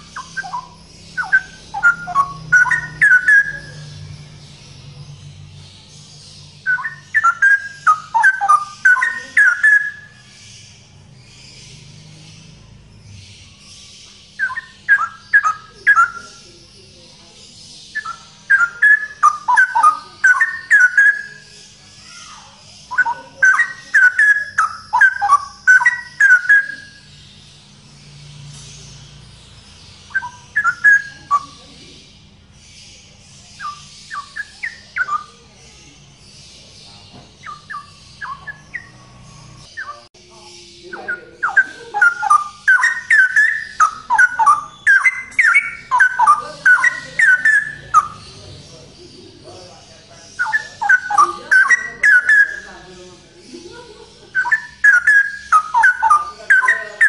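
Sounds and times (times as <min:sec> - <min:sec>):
bird singing warbling phrases: 0:00.0 - 0:57.0.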